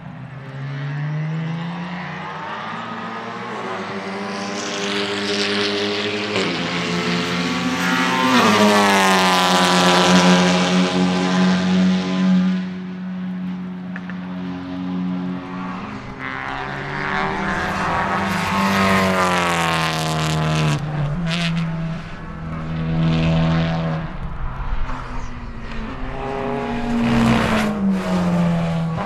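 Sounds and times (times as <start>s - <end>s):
race car engine accelerating past: 0.6s - 12.8s, 14.3s - 29.0s.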